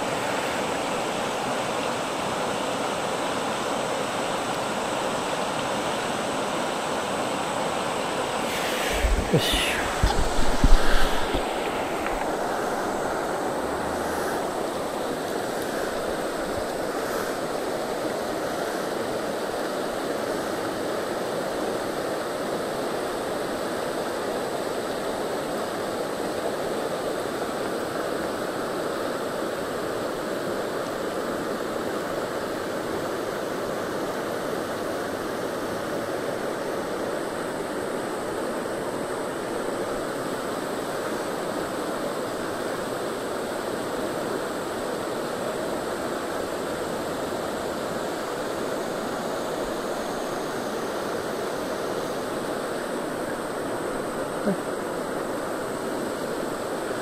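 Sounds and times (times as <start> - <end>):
river running over rocks: 0.0 - 57.0.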